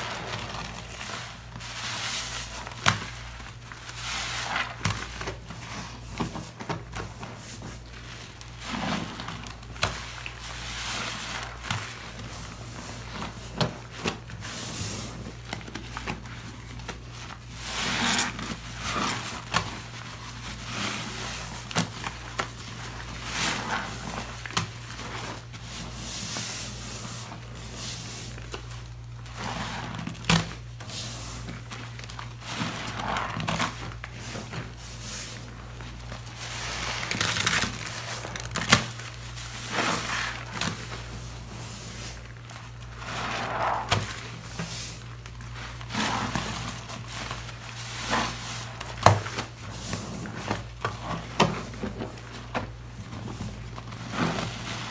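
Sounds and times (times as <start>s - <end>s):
sponges squelching in suds: 0.0s - 54.9s.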